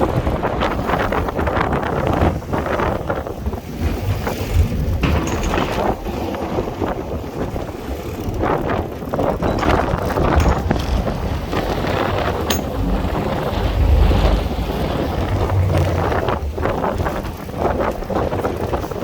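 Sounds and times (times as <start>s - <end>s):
sea waves surging: 0.0s - 9.4s, 10.3s - 19.0s
wind buffeting microphone: 0.0s - 19.0s.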